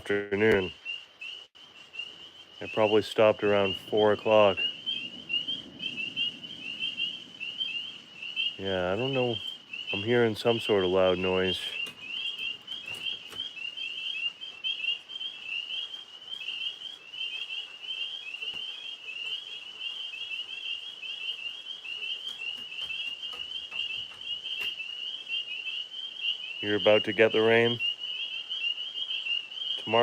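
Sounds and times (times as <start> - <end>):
tree frogs chorusing: 0.0 - 30.0.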